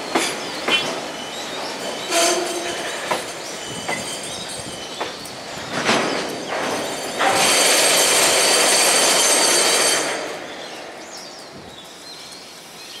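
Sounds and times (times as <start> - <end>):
train wagons rolling on rails: 0.0 - 13.0.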